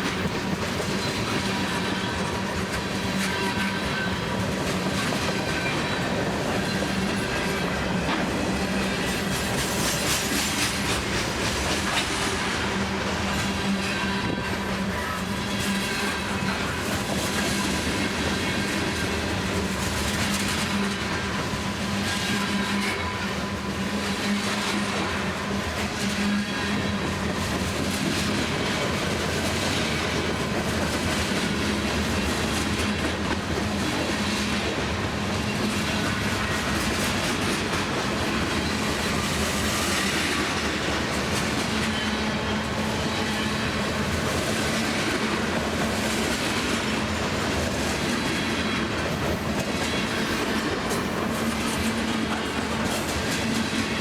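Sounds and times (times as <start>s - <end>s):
train wheels clicking over rail joints: 0.0s - 23.1s, 23.8s - 54.0s
freight train rumble: 0.0s - 54.0s.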